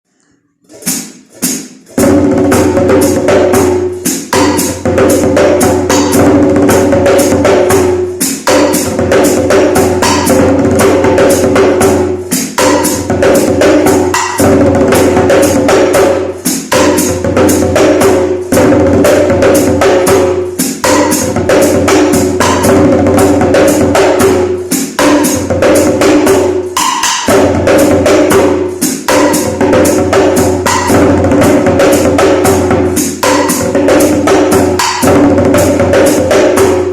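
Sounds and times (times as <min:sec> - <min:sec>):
rapid hand drumming: 0:00.7 - 0:36.9.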